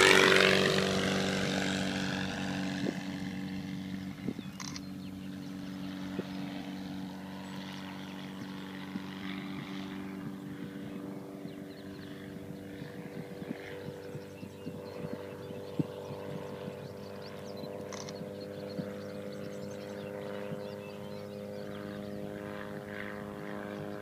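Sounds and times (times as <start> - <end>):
propeller aircraft droning: 0.0 - 24.0.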